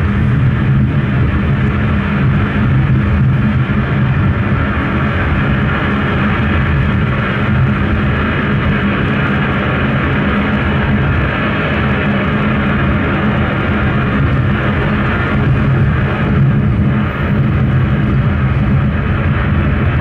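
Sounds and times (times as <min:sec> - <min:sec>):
low hum: 0:00.0 - 0:20.0
rushing noise: 0:00.0 - 0:20.0.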